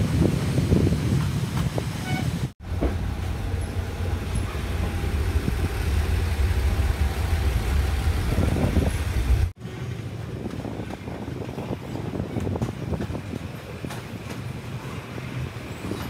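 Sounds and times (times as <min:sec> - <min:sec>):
vehicle rumble: 0:00.0 - 0:13.4.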